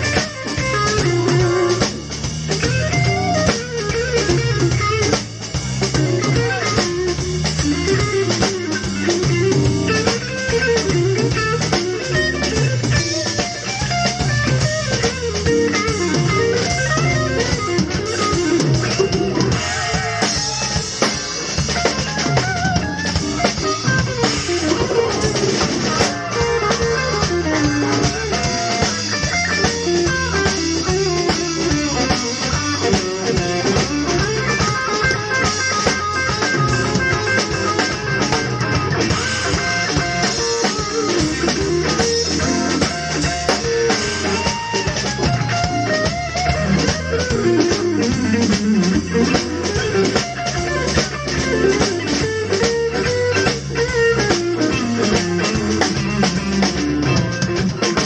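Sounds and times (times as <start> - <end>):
drum kit beat: 0.0 - 58.0
guitar: 0.0 - 58.0
organ: 0.0 - 58.0.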